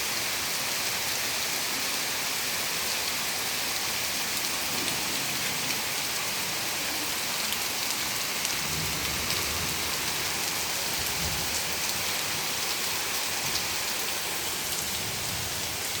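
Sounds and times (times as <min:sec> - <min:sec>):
heavy rain on trees: 0:00.0 - 0:16.0.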